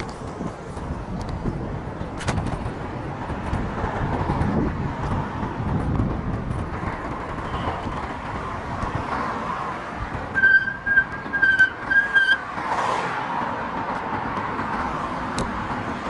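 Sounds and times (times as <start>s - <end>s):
cars passing: 0.0s - 16.0s
road and wind noise: 0.0s - 16.0s.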